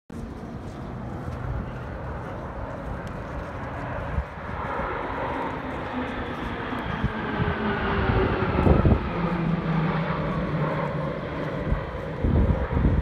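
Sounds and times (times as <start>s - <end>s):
jet engines overhead: 0.1s - 13.0s.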